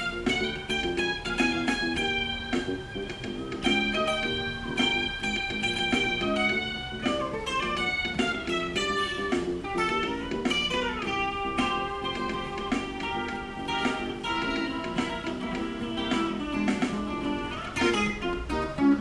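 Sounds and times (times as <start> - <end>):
electric guitar funk lead: 0.0 - 19.0
funk backing track: 0.0 - 19.0.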